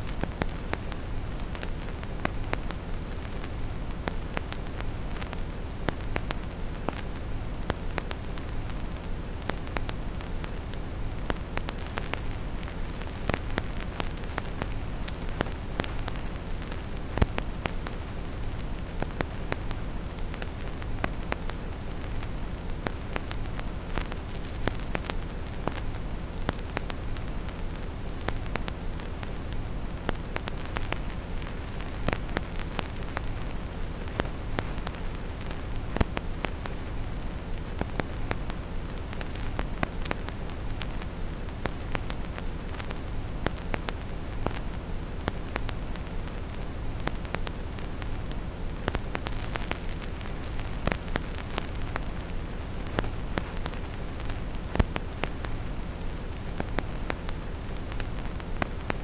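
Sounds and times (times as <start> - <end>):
steady brown noise: 0.0 - 59.0
vinyl record crackle: 0.0 - 59.0.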